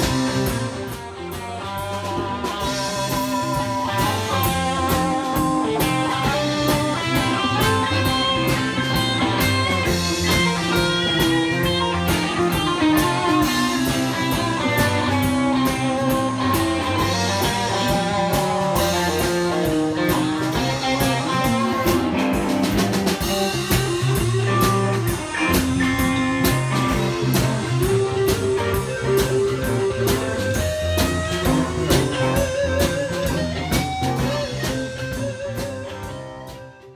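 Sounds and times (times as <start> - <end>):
live rock band with electric guitars: 0.0 - 36.9.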